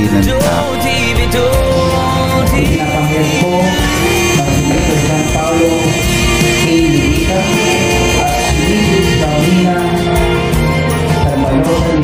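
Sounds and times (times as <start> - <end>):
song with singing voice: 0.0 - 12.0.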